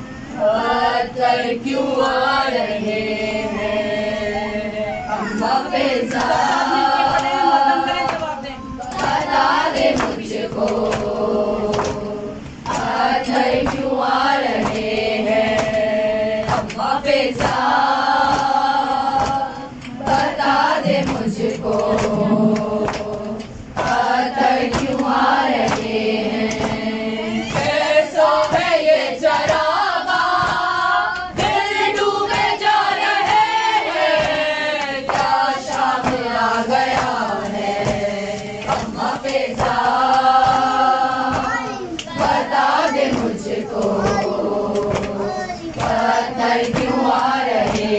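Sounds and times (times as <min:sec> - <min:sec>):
women chanting a lament: 0:00.0 - 0:47.9.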